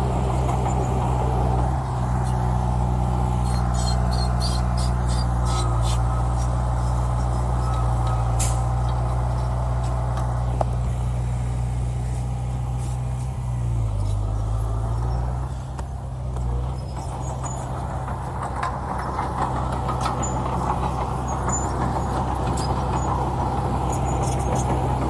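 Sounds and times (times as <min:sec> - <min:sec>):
diesel machinery droning: 0:00.0 - 0:25.0.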